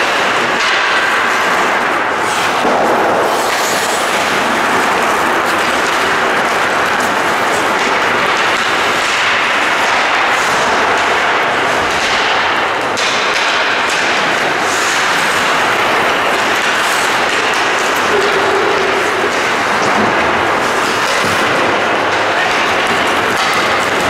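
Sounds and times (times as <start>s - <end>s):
hockey sticks and puck knocking: 0.0s - 24.0s
skates on ice: 0.0s - 24.0s.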